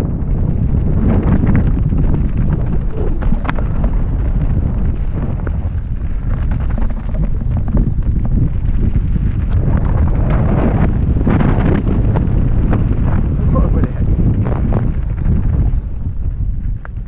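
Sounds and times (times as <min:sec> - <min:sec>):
bike tyres clattering over stones: 0:00.0 - 0:17.0
wind rumble on microphone: 0:00.0 - 0:17.0.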